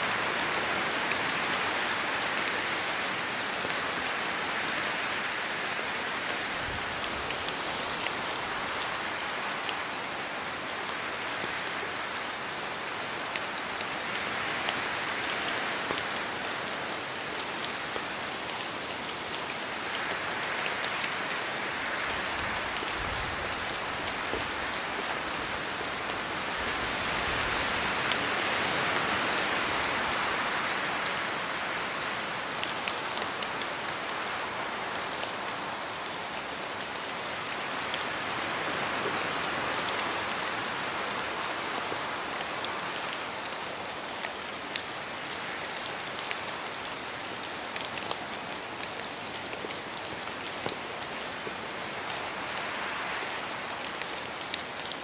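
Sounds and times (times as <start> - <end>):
rain in forest: 0.0 - 55.0.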